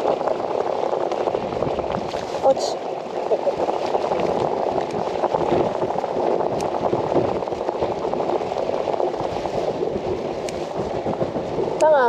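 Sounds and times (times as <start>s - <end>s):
choppy water against boat hull: 0.0s - 12.0s.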